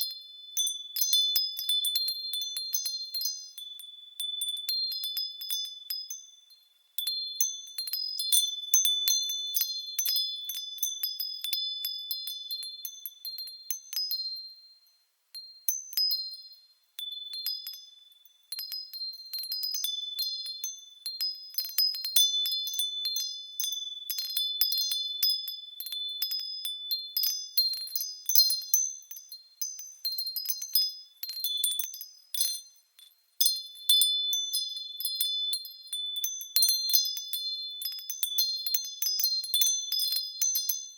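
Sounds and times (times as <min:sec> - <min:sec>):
wind chimes tinkling: 0:00.0 - 0:40.9.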